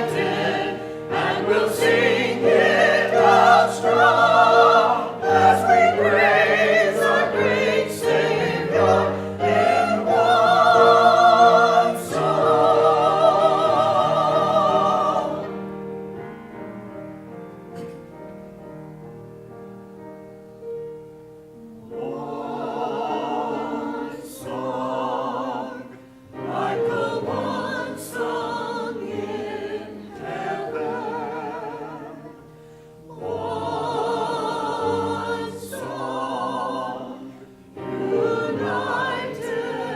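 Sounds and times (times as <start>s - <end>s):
church choir singing: 0.0s - 17.2s, 21.5s - 39.9s
soft held accompaniment: 0.0s - 39.9s.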